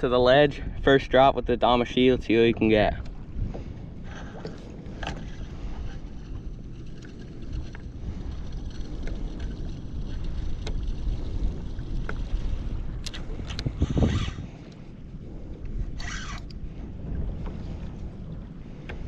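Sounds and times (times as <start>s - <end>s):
water lapping at hull: 0.0s - 19.0s
wind buffeting microphone: 0.0s - 19.0s.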